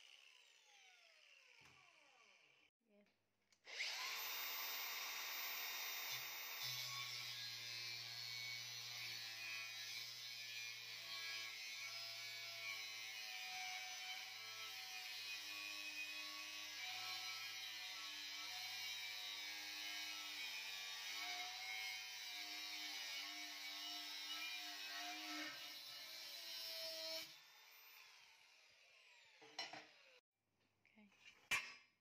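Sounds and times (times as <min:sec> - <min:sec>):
angle grinder cutting steel: 0:03.7 - 0:30.2.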